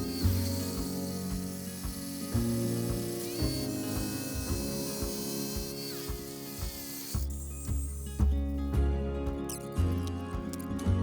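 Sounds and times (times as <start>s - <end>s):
background music with deep beat: 0.0s - 11.0s.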